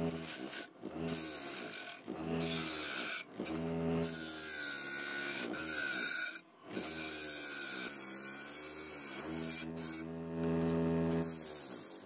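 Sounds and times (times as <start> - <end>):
wire wheel rasping on metal: 0.0 - 12.0.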